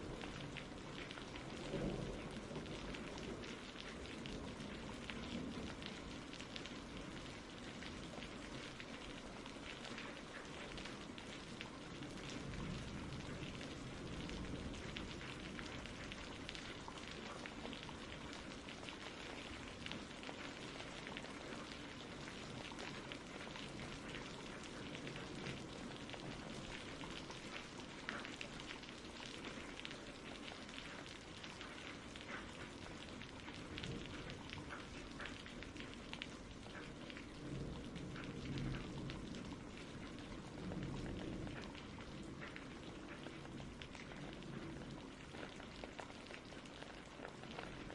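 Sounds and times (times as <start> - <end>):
raindrops ticking: 0.0 - 47.9
steady rain falling: 0.0 - 47.9.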